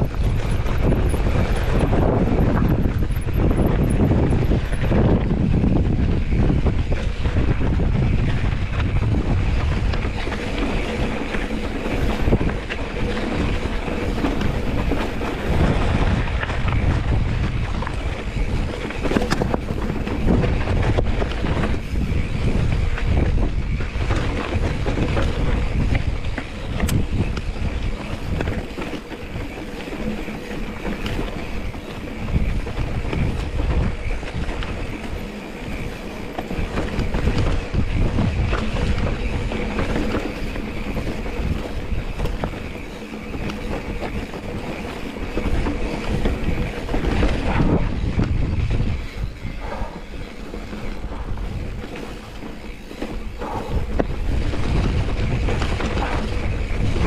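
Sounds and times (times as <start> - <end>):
wind buffeting the microphone: 0.0 - 57.0.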